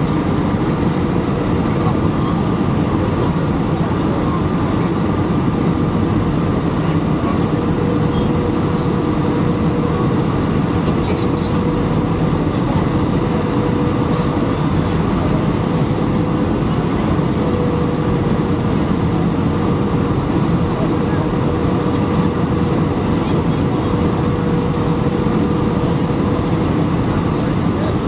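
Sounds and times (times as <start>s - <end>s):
aircraft engines and airflow roar: 0.0s - 28.0s.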